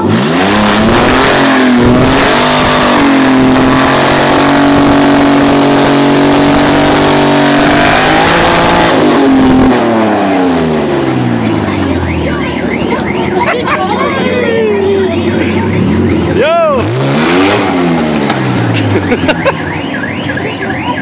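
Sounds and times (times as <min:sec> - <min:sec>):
car engine at high revs: 0:00.0 - 0:21.0.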